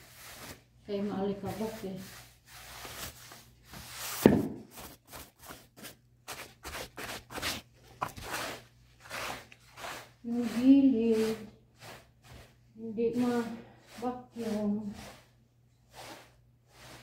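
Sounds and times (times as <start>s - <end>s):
brush scrubbing carpet: 0.0s - 17.0s.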